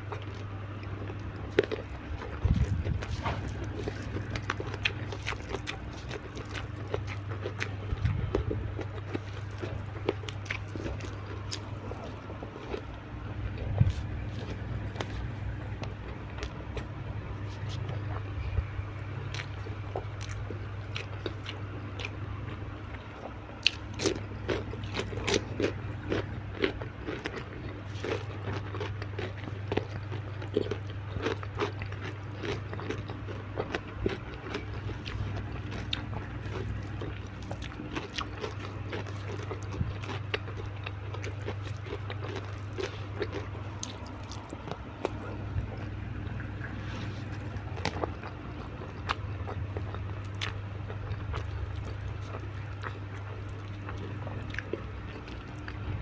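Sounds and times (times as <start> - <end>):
chewing and crunching food: 0.0 - 56.0
steady low hum: 0.0 - 56.0.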